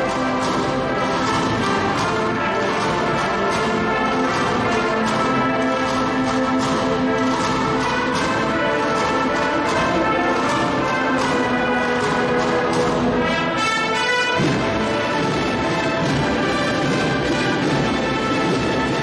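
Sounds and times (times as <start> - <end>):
brass band playing processional march: 0.0 - 19.0.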